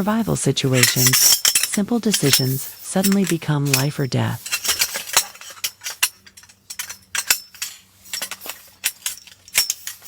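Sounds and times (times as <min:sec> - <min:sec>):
metal cookware clinking: 0:00.7 - 0:10.0.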